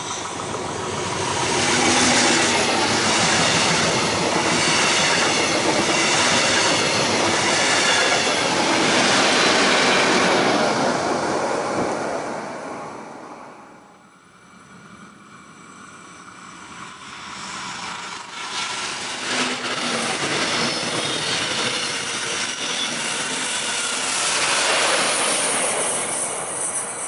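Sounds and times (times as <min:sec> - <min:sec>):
passenger train passing at speed: 0:00.0 - 0:27.0.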